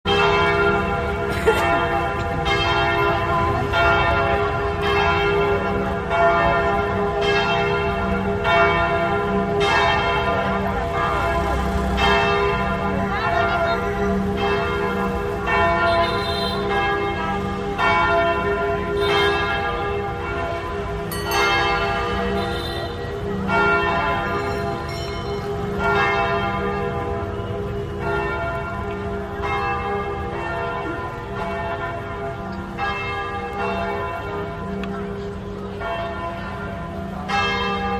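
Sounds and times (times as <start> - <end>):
church bells ringing: 0.0 - 37.9.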